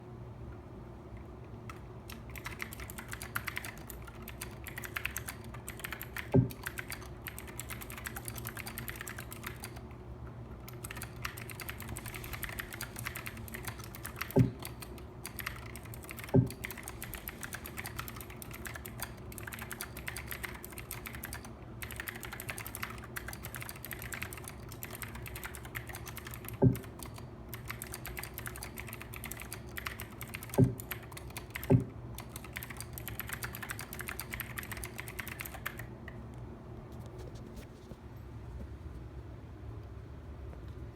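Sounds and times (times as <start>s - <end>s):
mechanical keyboard typing: 1.7s - 9.9s, 10.6s - 35.9s.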